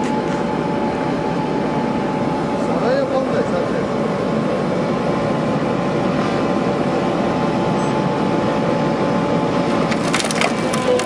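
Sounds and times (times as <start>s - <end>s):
road roller diesel engine drone: 0.0s - 11.0s.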